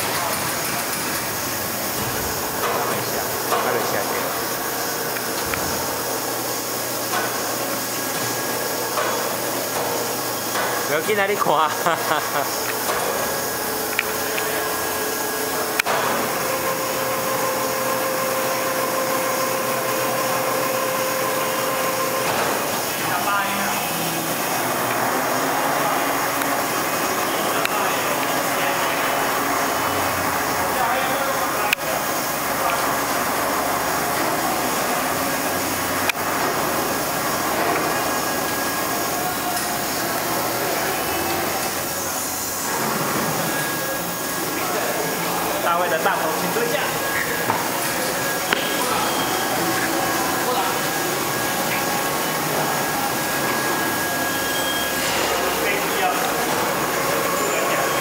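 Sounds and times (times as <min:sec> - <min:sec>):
lathe hissing machine noise: 0:00.0 - 0:58.0
steady machine whine: 0:00.0 - 0:58.0.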